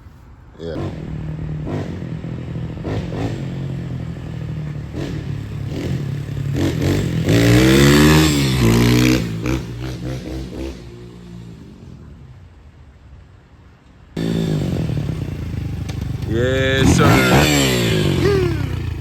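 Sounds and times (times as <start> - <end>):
dirt bike engine revving: 0.6 - 12.1, 14.2 - 19.0.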